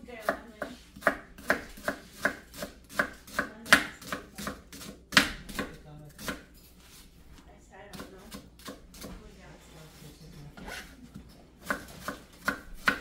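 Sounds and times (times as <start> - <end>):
knife chopping on cutting board: 0.1 - 7.0, 7.9 - 9.3, 10.6 - 13.0.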